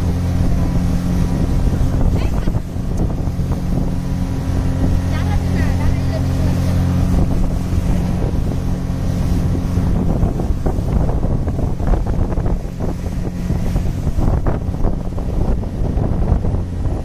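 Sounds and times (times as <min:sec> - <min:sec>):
speedboat motor drone: 0:00.0 - 0:17.0
water rushing and splashing: 0:00.0 - 0:17.0
wind buffeting microphone: 0:00.0 - 0:17.0.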